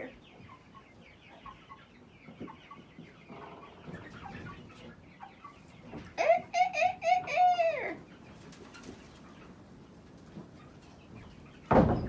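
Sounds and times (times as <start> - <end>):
chickens clucking softly: 0.0 - 11.8.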